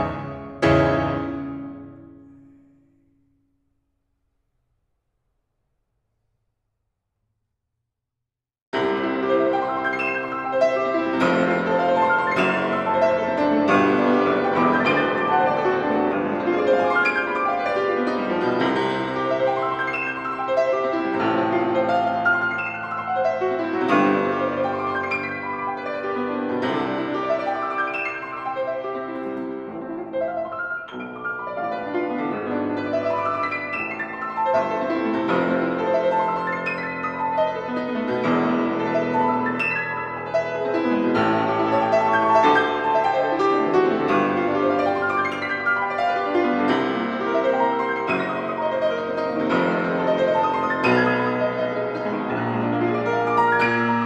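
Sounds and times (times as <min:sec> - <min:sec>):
piano music: 0:00.0 - 0:03.4, 0:08.8 - 0:54.0.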